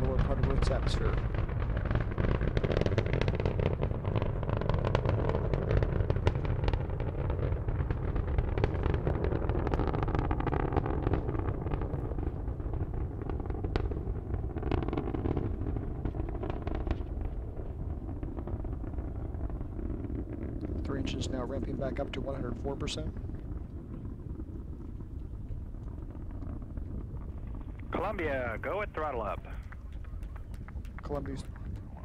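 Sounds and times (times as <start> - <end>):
rocket launch rumble with crackling: 0.0 - 32.0.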